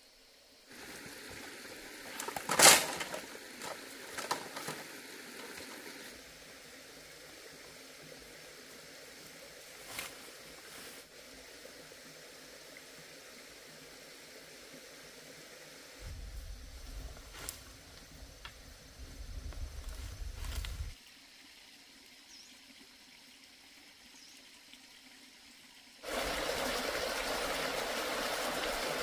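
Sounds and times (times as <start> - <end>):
water trickling: 0.7 - 14.0, 16.4 - 29.0.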